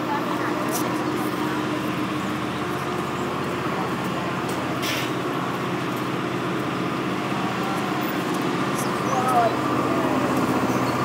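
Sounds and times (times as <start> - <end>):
idling engine drone: 0.0 - 11.0.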